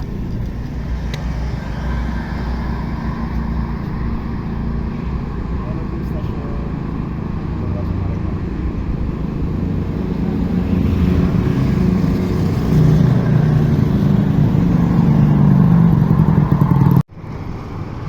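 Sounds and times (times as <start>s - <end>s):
vehicle engine running: 0.0s - 17.0s
quieter engine noise: 0.0s - 18.0s.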